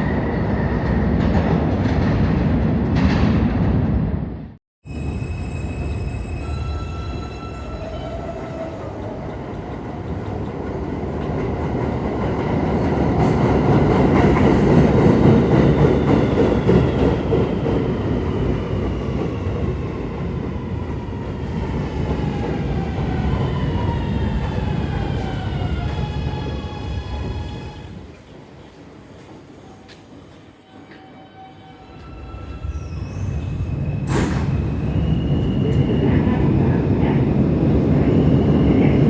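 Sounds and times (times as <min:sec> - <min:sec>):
subway wheels rumbling on rail: 0:00.0 - 0:39.0.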